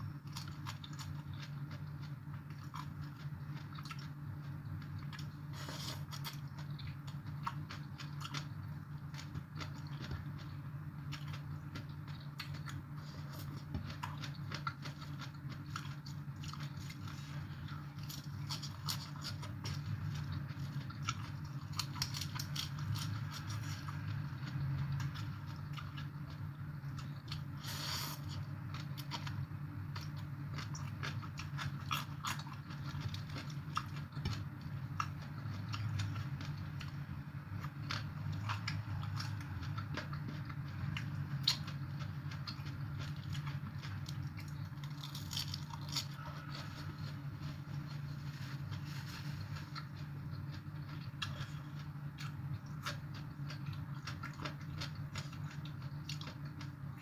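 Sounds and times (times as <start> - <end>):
chewing and crunching salad: 0.0 - 57.0
steady low hum: 0.0 - 57.0.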